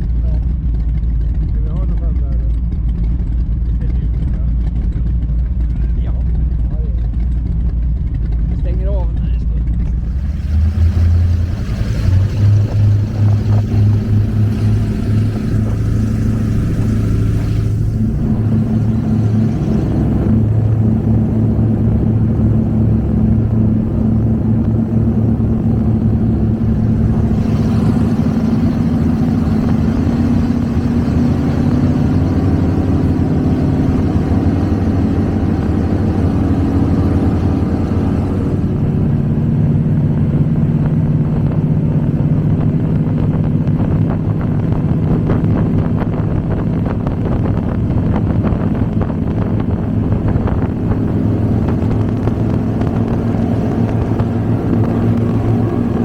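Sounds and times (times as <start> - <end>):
power boat engines droning: 0.0 - 56.0.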